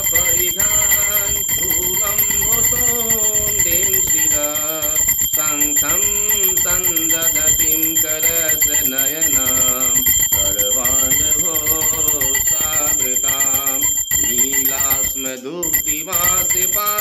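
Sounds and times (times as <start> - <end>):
brass hand bell ringing: 0.0 - 17.0.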